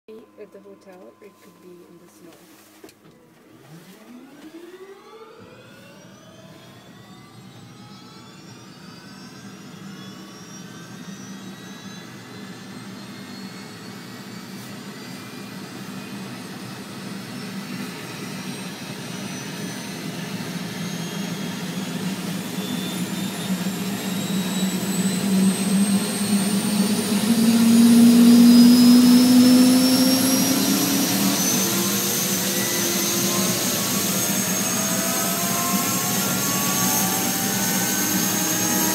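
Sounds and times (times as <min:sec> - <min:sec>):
turbine whine rising: 0:03.1 - 0:38.9
low helicopter drone: 0:03.6 - 0:38.9.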